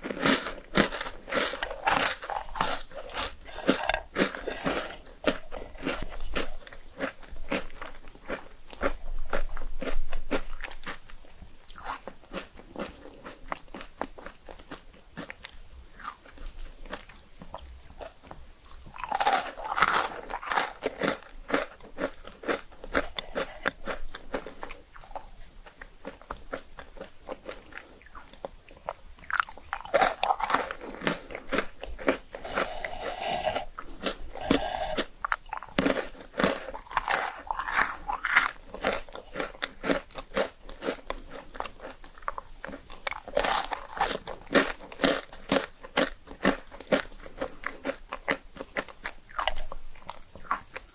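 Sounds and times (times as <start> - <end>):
crunching rice cakes: 0.0 - 50.9.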